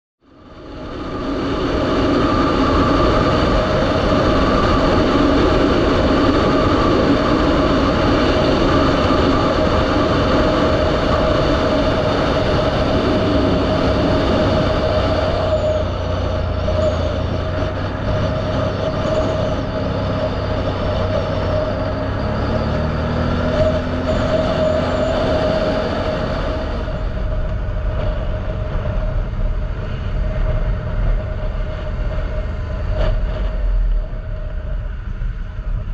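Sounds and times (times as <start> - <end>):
atv engine running: 3.5 - 33.5.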